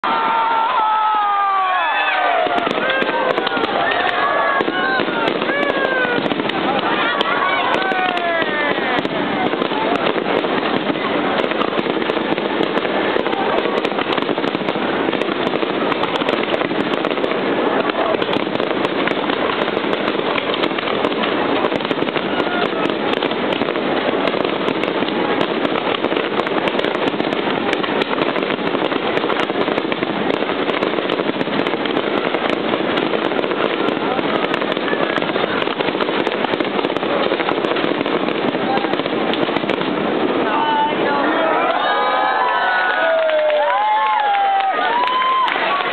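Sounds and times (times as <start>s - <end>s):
fireworks crackling bursts: 0.0s - 45.9s
people's voices: 0.1s - 45.9s.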